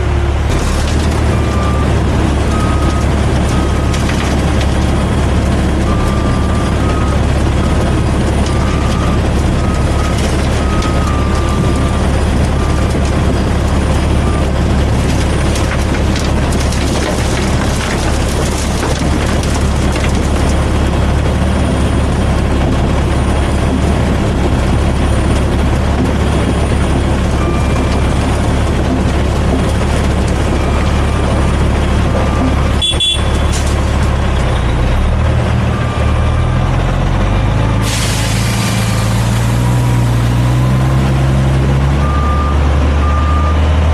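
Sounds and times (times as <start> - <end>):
diesel engine droning and revving: 0.0 - 43.9.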